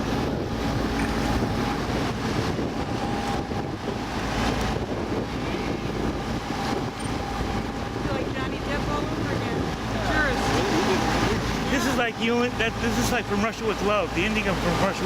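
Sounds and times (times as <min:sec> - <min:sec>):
motorboat engine running: 0:00.0 - 0:15.0
water rushing along hull: 0:00.0 - 0:15.0
wind buffeting microphone: 0:00.0 - 0:15.0.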